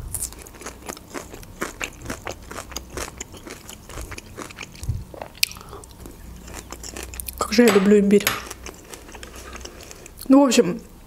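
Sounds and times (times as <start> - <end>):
person chewing crunchy food: 0.0 - 7.6, 8.3 - 10.3.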